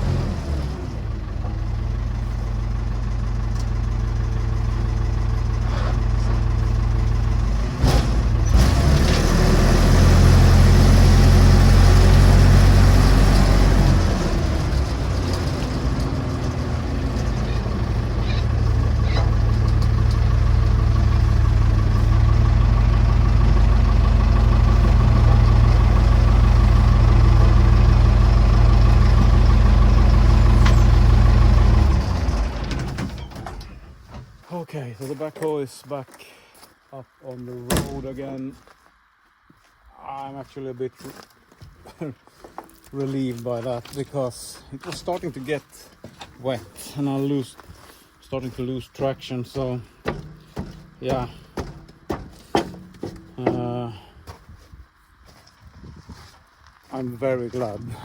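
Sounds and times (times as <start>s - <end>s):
backhoe engine under load: 0.0s - 36.0s, 37.2s - 39.5s, 40.6s - 58.0s.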